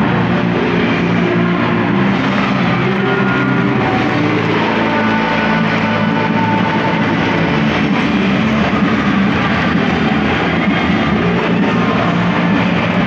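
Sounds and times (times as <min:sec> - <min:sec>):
large stadium crowd noise: 0:00.0 - 0:13.0
music over public address: 0:00.0 - 0:13.0.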